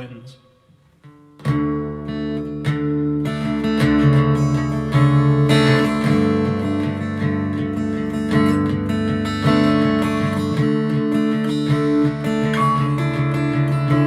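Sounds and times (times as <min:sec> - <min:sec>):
acoustic guitar strummed chords: 0:00.1 - 0:14.0.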